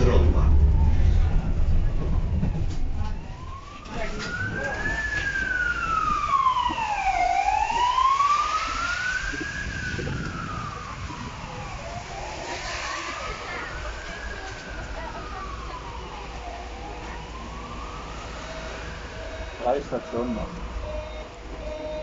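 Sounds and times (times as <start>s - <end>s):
emergency vehicle siren wailing: 0.0s - 22.0s
low tram rumble: 0.0s - 22.0s.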